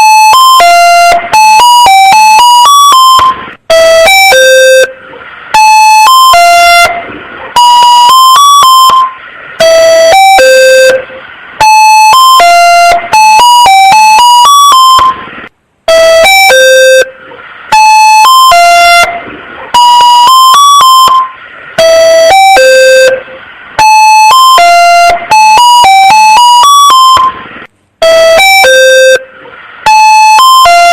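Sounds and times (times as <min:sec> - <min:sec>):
buzzy emergency alert beeping: 0:00.0 - 0:07.0, 0:07.6 - 0:15.2, 0:15.9 - 0:27.4.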